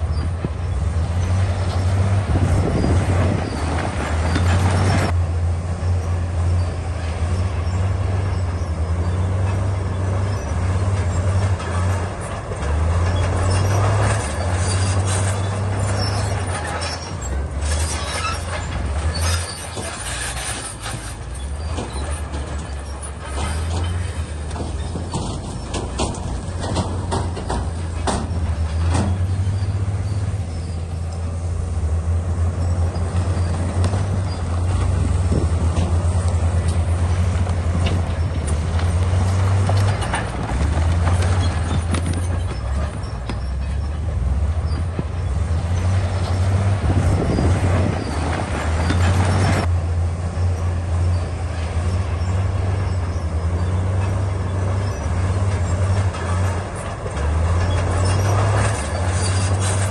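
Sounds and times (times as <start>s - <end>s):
bulldozer diesel engine: 0.0s - 59.9s
grinding: 6.0s - 49.7s, 50.5s - 59.9s.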